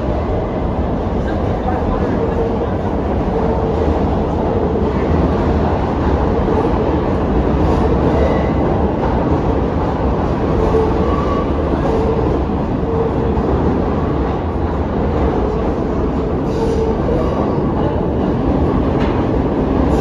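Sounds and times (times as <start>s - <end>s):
subway train wheels running: 0.0s - 20.0s.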